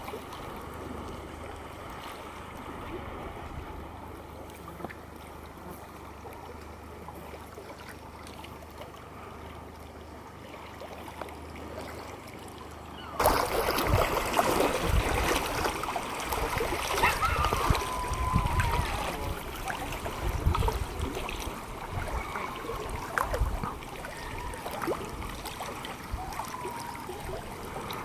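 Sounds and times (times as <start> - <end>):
motorboat engine hum: 0.0 - 28.0
rushing water: 0.0 - 28.0.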